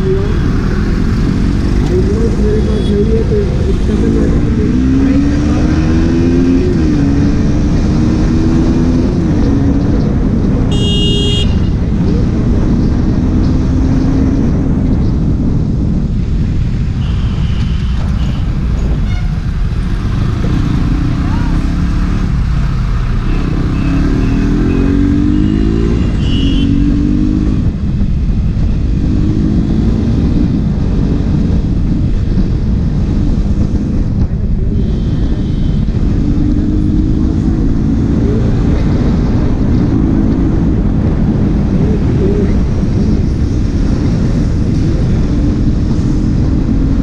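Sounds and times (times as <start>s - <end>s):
motorcycle engine revving: 0.0s - 15.8s, 17.8s - 47.0s
wind rushing on microphone: 0.0s - 47.0s.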